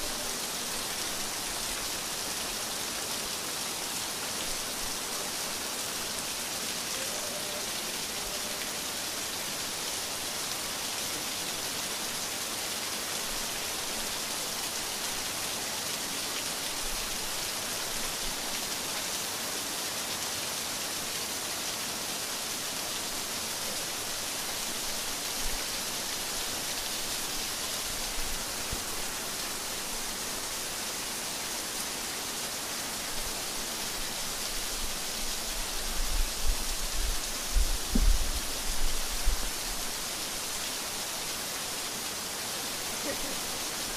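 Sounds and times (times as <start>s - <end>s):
rain hissing: 0.0s - 43.9s.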